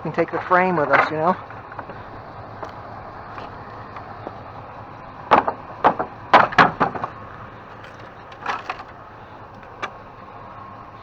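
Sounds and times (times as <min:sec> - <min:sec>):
wood snapping: 0:00.0 - 0:04.6, 0:05.2 - 0:10.0
wood cracking and creaking: 0:00.0 - 0:10.2.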